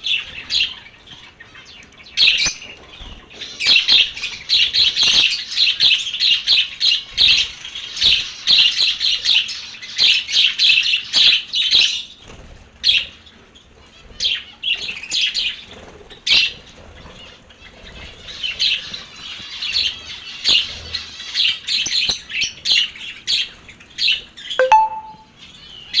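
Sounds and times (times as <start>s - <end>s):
lovebirds chirping and squawking: 0.0s - 26.0s.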